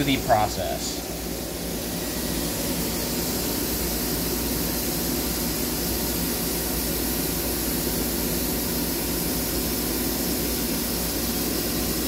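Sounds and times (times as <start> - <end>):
coolant spraying hiss: 0.0 - 12.0
machine running hum: 0.0 - 12.0.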